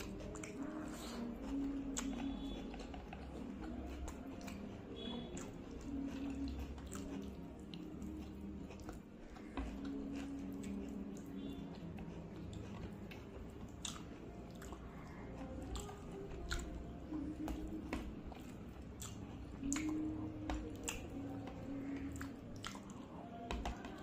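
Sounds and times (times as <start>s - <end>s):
chewing with wet mouth smacks: 0.0s - 24.0s.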